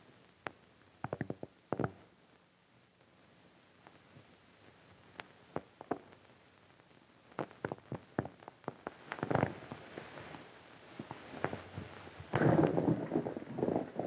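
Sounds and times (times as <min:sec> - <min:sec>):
film soundtrack hiss: 0:00.0 - 0:14.0.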